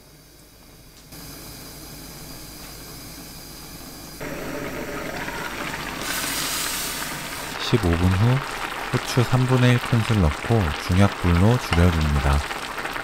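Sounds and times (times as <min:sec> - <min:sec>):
stew boiling under lid hissing: 0:00.0 - 0:13.0.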